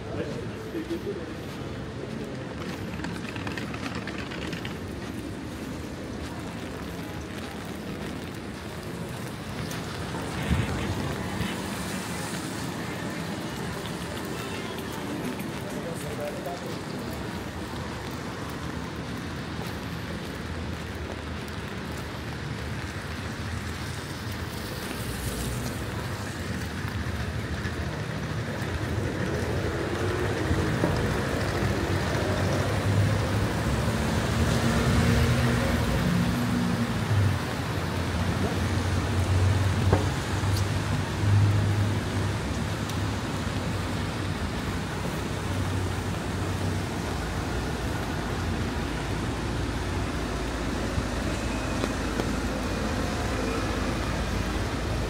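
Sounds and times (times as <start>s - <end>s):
rain and tyres on wet road: 0.0s - 55.0s.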